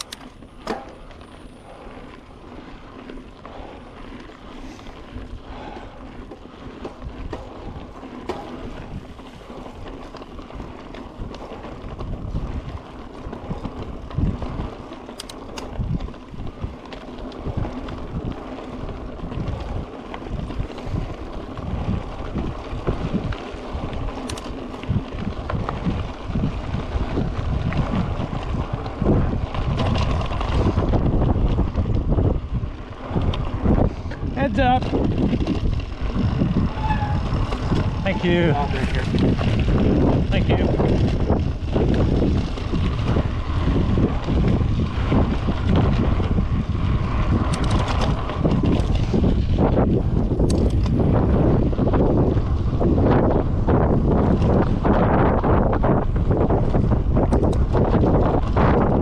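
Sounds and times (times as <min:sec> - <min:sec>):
bike clicks: 0:00.0 - 0:59.0
wind buffeting microphone: 0:00.0 - 0:59.0.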